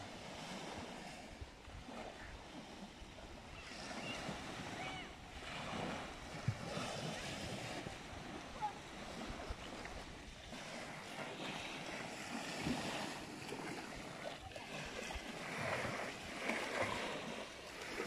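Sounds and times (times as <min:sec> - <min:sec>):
waves washing on sandy shore: 0:00.0 - 0:18.0
wind on microphone: 0:00.0 - 0:18.0.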